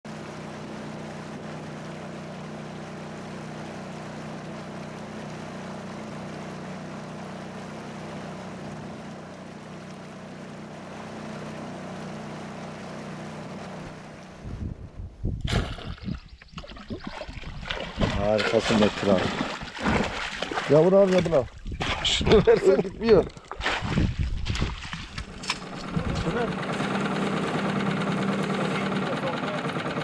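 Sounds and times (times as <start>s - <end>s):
outboard motor droning: 0.1s - 30.0s.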